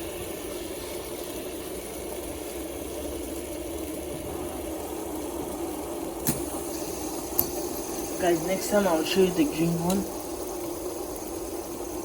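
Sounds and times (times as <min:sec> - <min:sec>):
fidget spinners whirring: 0:00.0 - 0:12.0.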